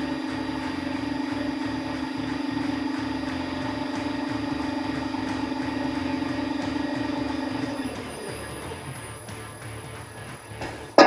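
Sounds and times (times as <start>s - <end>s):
tube bender machine hum: 0.0s - 11.0s.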